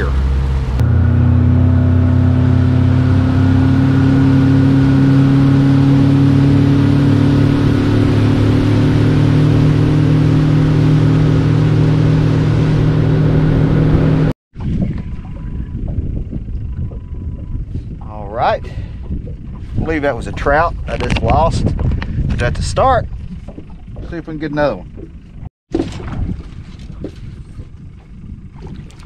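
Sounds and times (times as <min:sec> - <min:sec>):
boat outboard motor running: 0:00.0 - 0:29.0.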